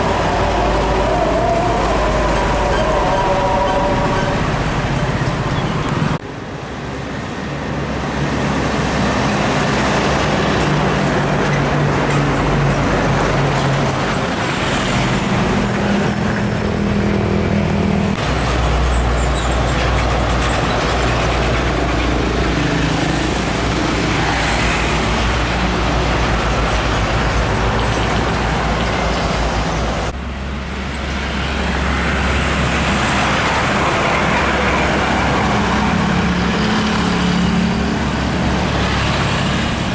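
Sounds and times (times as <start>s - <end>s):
diesel truck engines droning: 0.0s - 39.9s
traffic and road noise: 0.0s - 39.9s.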